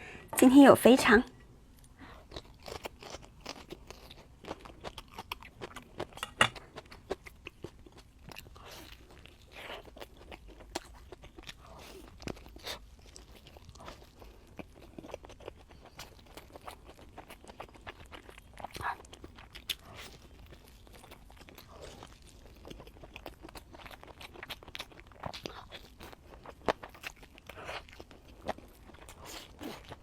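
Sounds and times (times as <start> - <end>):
wet chewing and crunching: 1.8 - 30.0.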